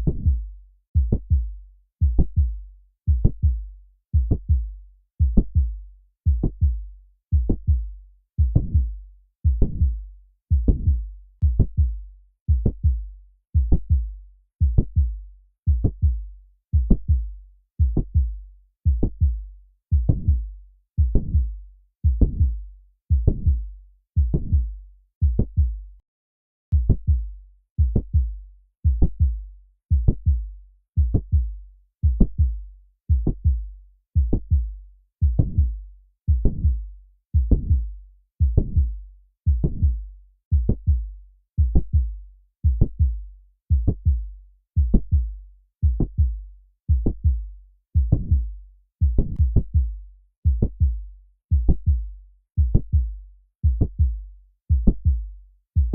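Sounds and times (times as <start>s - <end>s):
heartbeat through stethoscope: 0.0s - 25.8s, 26.7s - 55.9s.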